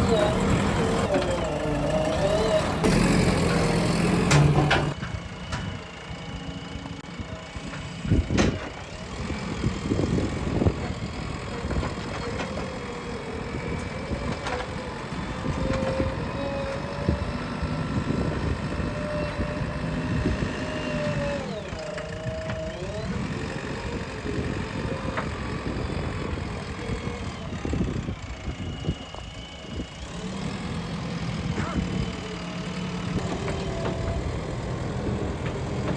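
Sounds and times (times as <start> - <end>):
backhoe diesel engine running: 0.0 - 35.9.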